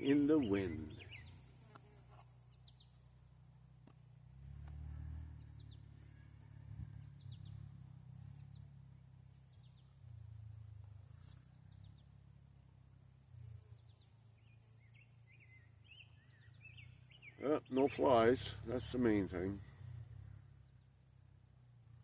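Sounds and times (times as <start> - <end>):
small birds chirping: 0.0 - 3.2, 5.4 - 6.2, 6.9 - 12.5, 13.3 - 22.0.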